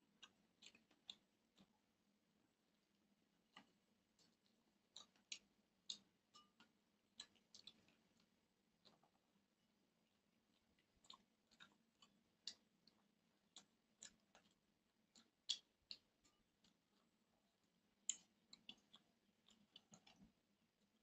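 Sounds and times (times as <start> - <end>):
chewing and eating by hand: 0.0 - 21.0.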